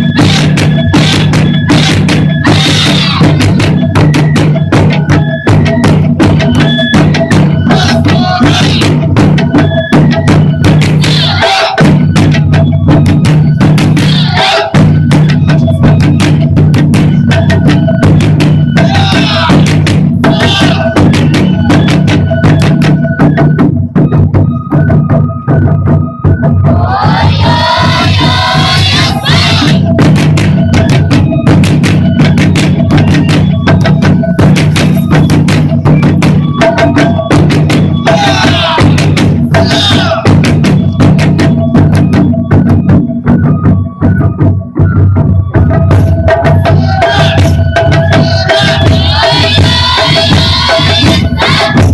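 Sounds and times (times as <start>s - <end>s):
taiko drum ensemble playing: 0.0s - 51.9s.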